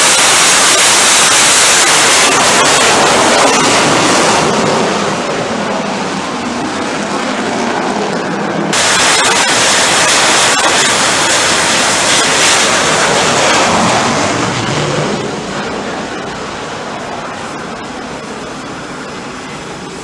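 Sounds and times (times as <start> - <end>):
jet engine rush: 0.0 - 20.0.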